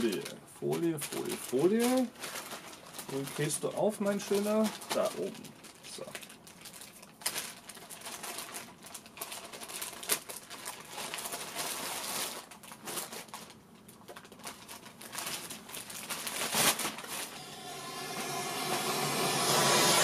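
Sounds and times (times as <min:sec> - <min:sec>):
plastic film peeling and crinkling: 0:00.0 - 0:17.4.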